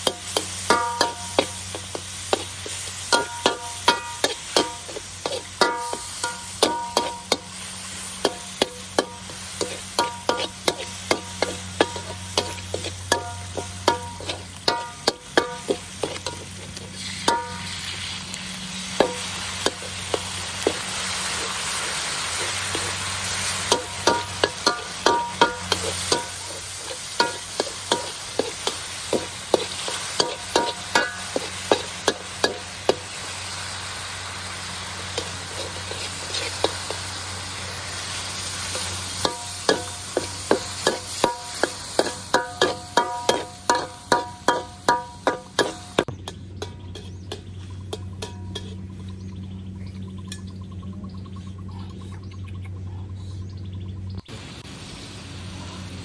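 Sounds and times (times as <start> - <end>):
metal spatula scraping a wok: 0.0 - 33.8, 34.8 - 49.0
food sizzling: 0.0 - 46.7, 54.2 - 56.0.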